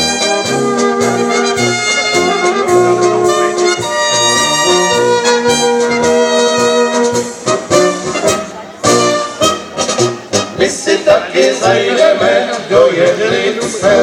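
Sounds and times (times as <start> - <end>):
brass band playing: 0.0 - 14.0
pulsing tuba bass: 0.0 - 14.0
trumpets and horns melody: 0.0 - 14.0.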